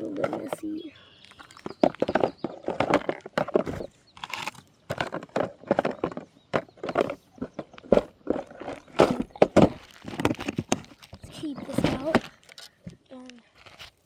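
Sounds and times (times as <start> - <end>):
tackle clattering and clicking: 0.0 - 13.0.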